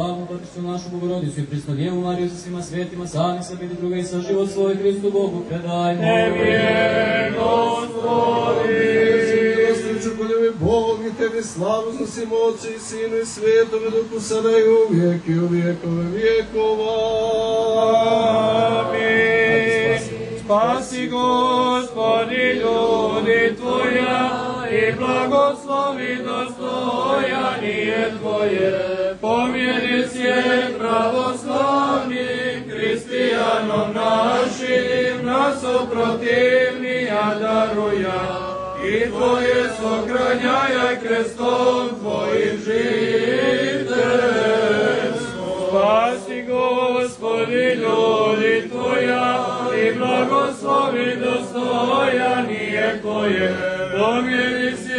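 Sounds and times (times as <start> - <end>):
voices chanting in long held tones: 0.0 - 54.9.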